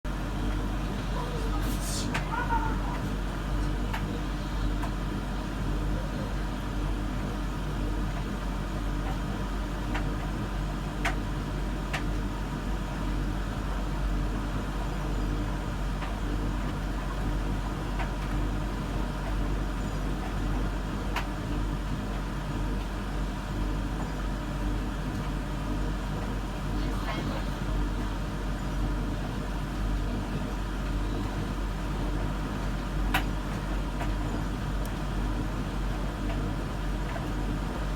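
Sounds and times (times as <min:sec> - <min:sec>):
washing machine humming: 0:00.1 - 0:37.9.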